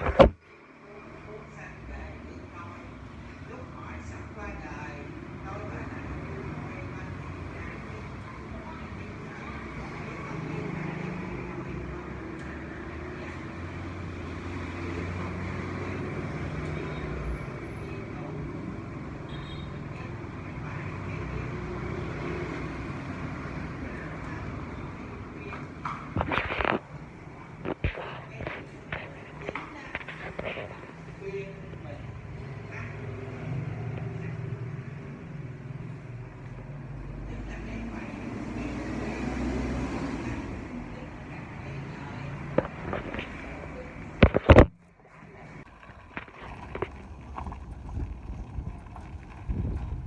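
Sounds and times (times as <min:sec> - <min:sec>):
vehicle engine and road noise: 0:00.0 - 0:50.0.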